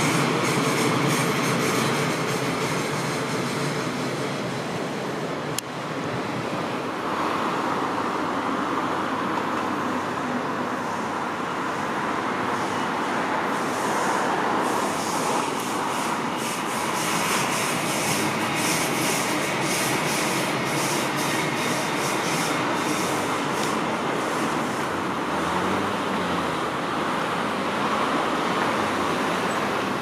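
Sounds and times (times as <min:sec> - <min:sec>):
train running on rails: 0:00.0 - 0:30.0.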